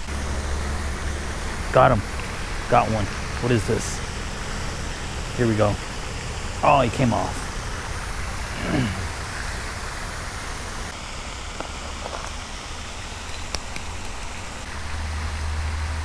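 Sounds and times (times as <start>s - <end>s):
fountain spraying water: 0.0s - 16.0s.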